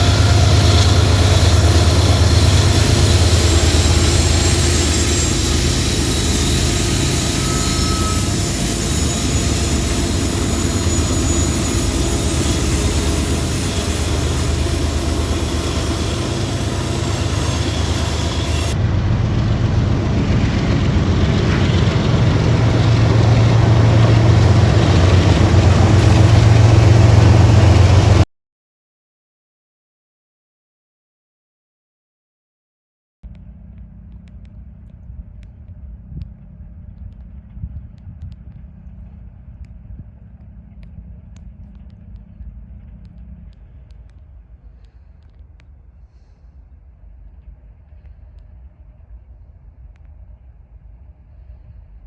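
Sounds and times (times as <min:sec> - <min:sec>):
diesel locomotive engine drone: 0:00.0 - 0:28.2, 0:33.3 - 0:52.0
rail noise: 0:00.0 - 0:28.2, 0:33.4 - 0:52.0.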